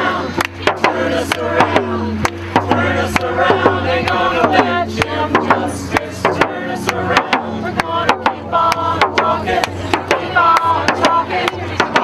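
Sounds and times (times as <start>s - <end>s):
crowd singing: 0.0s - 12.0s
hand drum beating: 0.4s - 12.0s.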